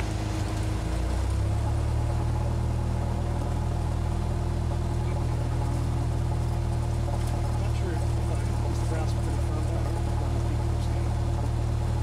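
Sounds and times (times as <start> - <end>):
aircraft propeller engine running: 0.0 - 12.0.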